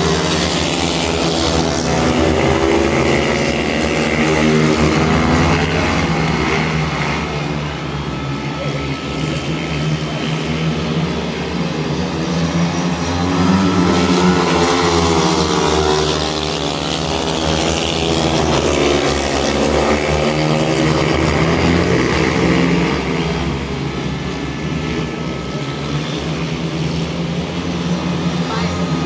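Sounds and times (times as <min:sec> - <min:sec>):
motorcycle engines racing: 0:00.0 - 0:29.0.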